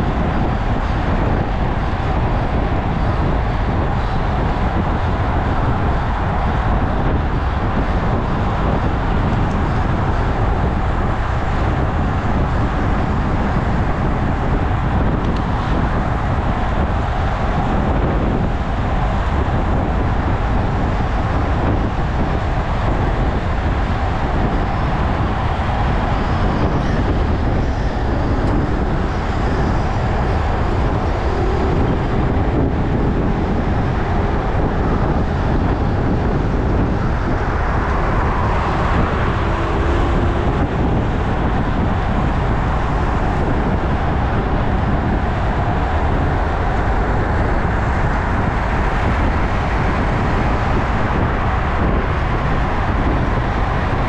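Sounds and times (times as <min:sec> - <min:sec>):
bike road noise: 0:00.0 - 0:54.0
cars passing: 0:00.0 - 0:54.0
wind rush: 0:00.0 - 0:54.0.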